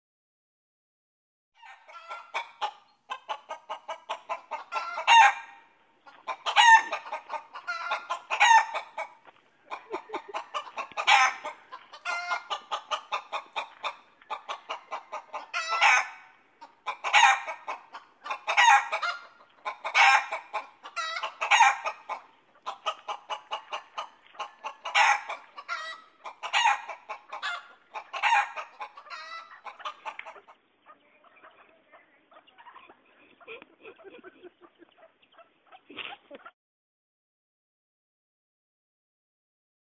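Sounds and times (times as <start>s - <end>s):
chickens cackling and squawking: 1.6s - 36.5s.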